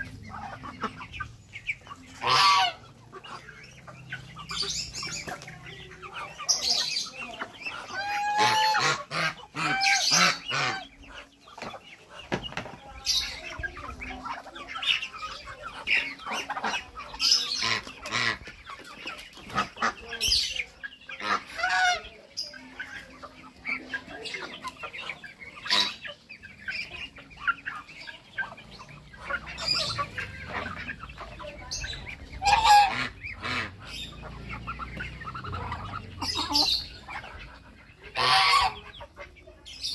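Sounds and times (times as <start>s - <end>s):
chickens and ducks clucking: 0.0s - 39.9s.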